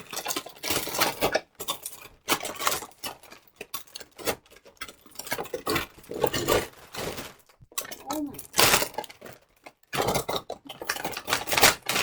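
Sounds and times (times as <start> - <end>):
clicks taps and scraping: 0.0 - 12.0.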